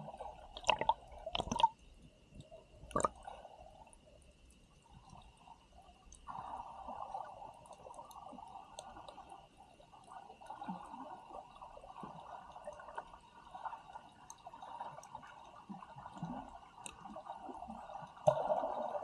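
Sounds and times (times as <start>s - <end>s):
muffled seawater gurgling: 0.0s - 19.0s.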